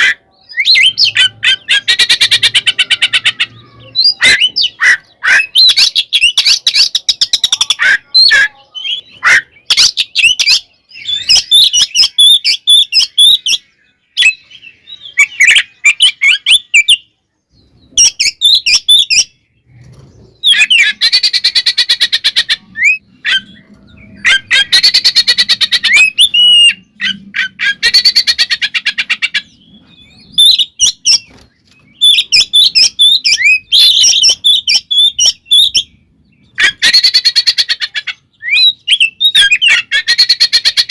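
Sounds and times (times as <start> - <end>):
songbird singing loudly: 0.0 - 40.9.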